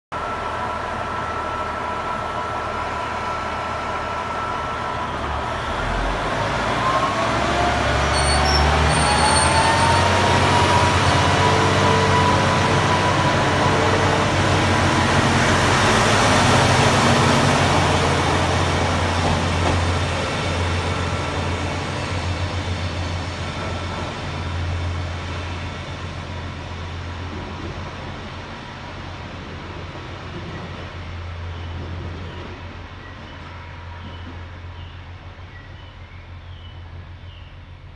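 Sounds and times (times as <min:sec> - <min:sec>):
diesel railcar engines revving: 0:00.2 - 0:37.9.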